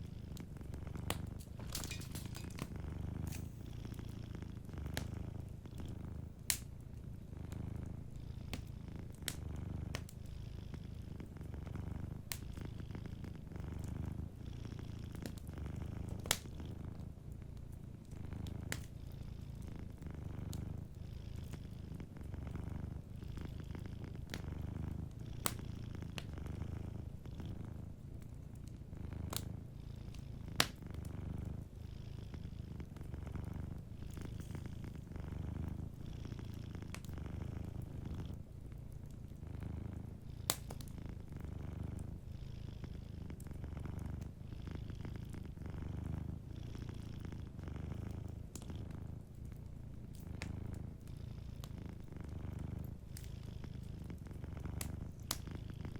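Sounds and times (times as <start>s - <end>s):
wood fire crackling: 0.0s - 14.4s, 15.0s - 19.0s, 19.6s - 31.8s, 32.4s - 42.2s, 45.1s - 55.9s
cat purring: 0.0s - 55.9s.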